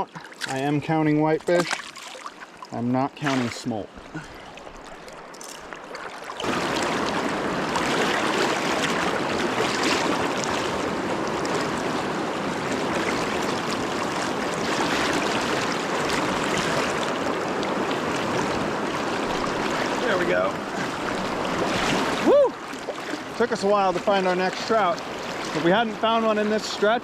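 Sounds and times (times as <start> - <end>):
rushing river water: 0.0 - 27.0.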